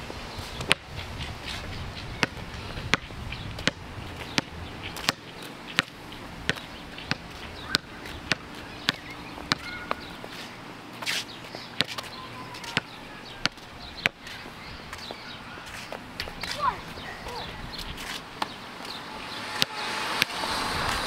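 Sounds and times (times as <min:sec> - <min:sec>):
footsteps on concrete: 0:00.0 - 0:19.1.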